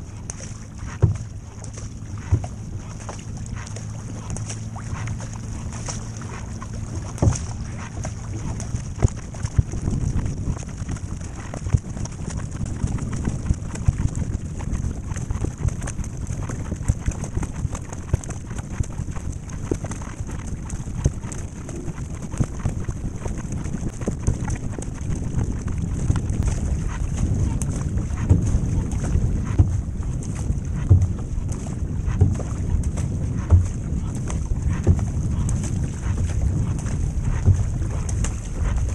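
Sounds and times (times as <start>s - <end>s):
low steady hum: 0.0s - 38.9s
paddle splashing into water: 0.0s - 38.9s
water washing along hull: 0.0s - 38.9s
wind buffeting microphone: 0.0s - 38.9s.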